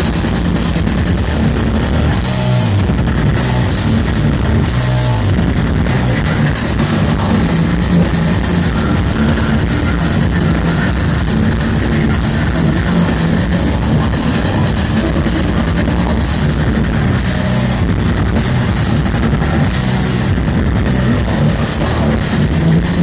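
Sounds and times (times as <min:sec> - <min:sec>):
heavy metal band playing live: 0:00.0 - 0:23.0.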